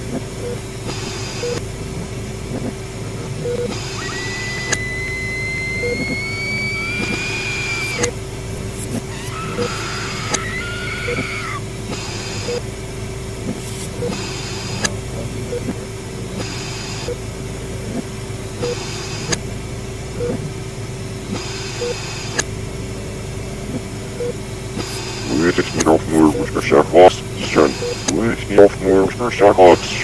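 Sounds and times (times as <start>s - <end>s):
low hum and drone: 0.0s - 30.0s.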